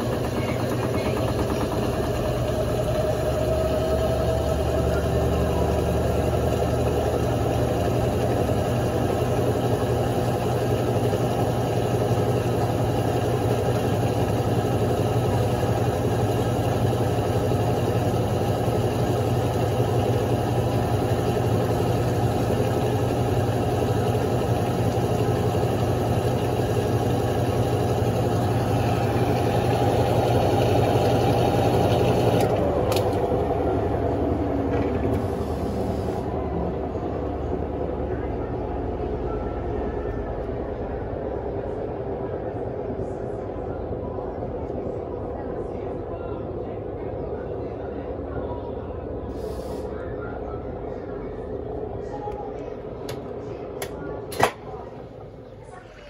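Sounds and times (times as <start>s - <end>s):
washing machine spinning: 0.0s - 49.2s.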